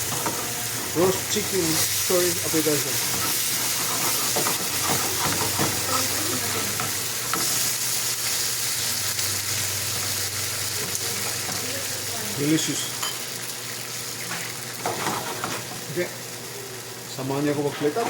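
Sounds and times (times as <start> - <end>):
chicken sizzling in pan: 0.0 - 18.0.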